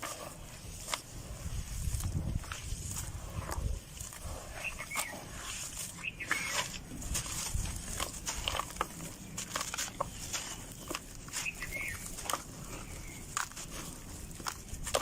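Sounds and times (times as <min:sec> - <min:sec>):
dry dirt lumps crunching: 0:00.0 - 0:15.0.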